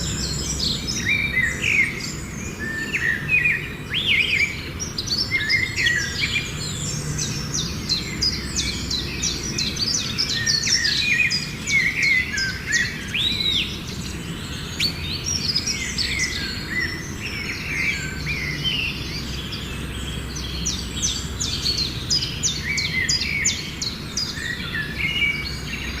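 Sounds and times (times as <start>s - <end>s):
birds chirping and whistling: 0.0s - 26.0s
low background hum: 0.0s - 26.0s.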